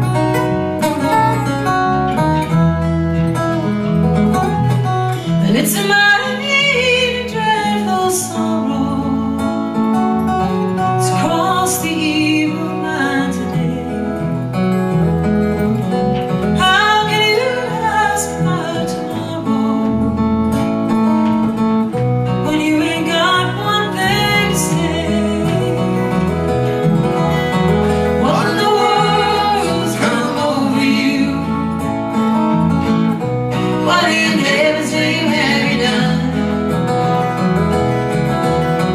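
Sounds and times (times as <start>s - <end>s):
acoustic guitar accompaniment: 0.0s - 38.9s.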